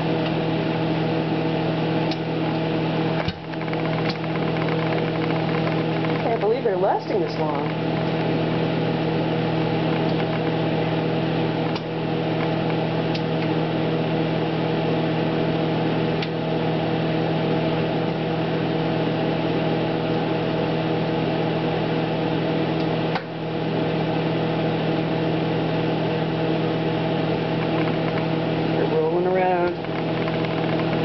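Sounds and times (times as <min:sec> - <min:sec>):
microwave oven humming: 0:00.0 - 0:31.0.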